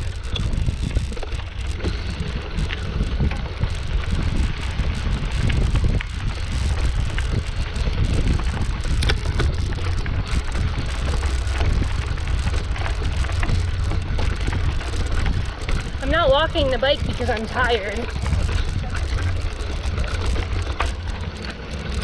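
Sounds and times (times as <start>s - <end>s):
light clicks and rattles: 0.0s - 22.0s
wind buffeting microphone: 0.0s - 22.0s.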